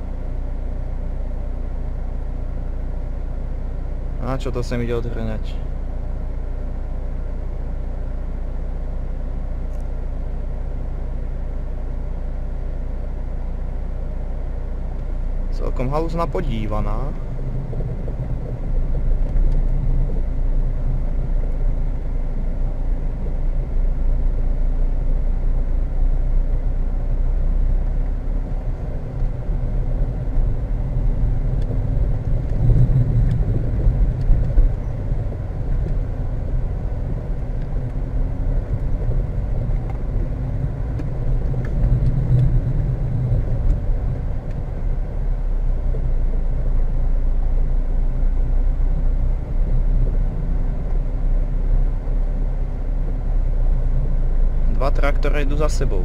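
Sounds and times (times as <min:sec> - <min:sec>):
car engine low rumble: 0:00.0 - 0:56.0.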